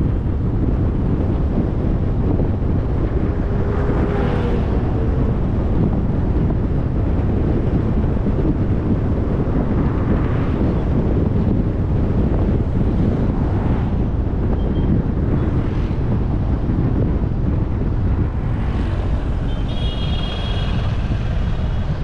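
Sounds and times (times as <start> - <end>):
vehicle road noise: 0.0 - 22.0
wind buffeting microphone: 0.0 - 22.0.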